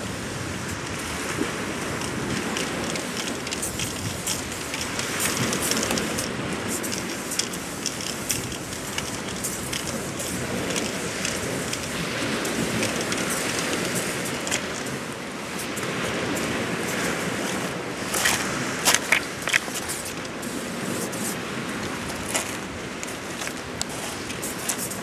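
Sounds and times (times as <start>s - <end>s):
wind: 0.0s - 25.0s
sharp clicks and bursts: 0.6s - 21.4s
aerosol spray can hissing: 1.9s - 21.4s, 23.1s - 25.0s.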